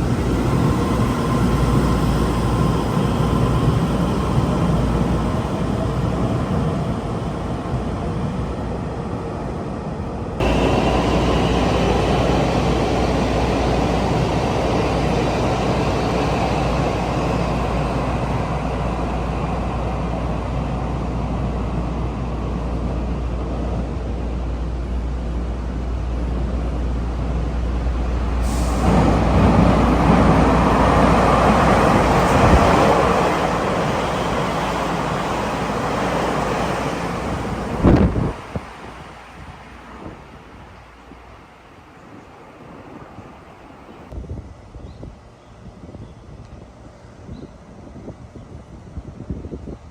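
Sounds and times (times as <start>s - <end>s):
train running past: 0.0s - 44.2s.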